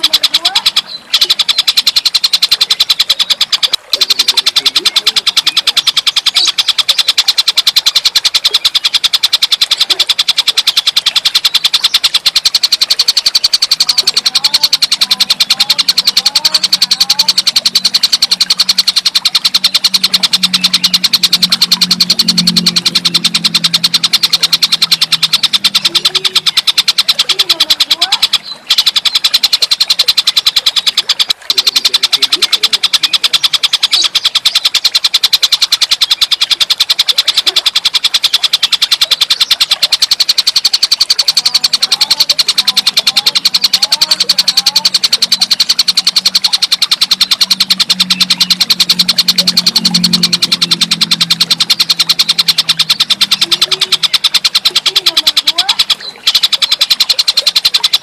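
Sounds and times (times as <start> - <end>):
bird buzzing trill: 0.0 - 58.0
low hum: 0.0 - 58.0.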